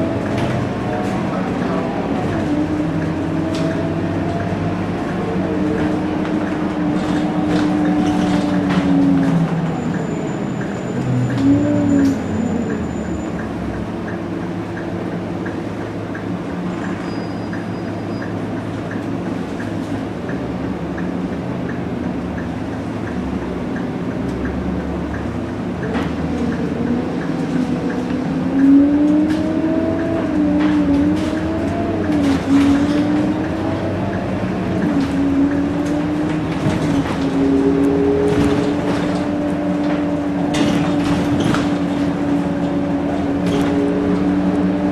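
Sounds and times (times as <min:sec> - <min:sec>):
bus diesel engine running: 0:00.0 - 0:44.9.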